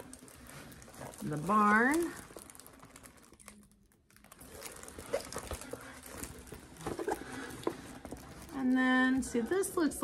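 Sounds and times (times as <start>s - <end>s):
plastic crinkling and rustling: 0.0s - 10.0s.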